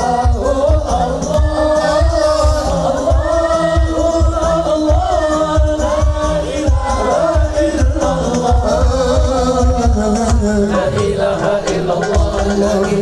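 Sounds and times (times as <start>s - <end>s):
devotional singing with chorus: 0.0s - 13.0s
frame drums beating: 0.0s - 13.0s.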